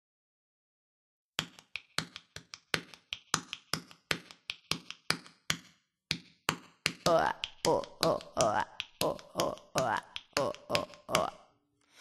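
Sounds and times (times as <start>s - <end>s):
hand percussion rhythm: 1.4s - 11.4s.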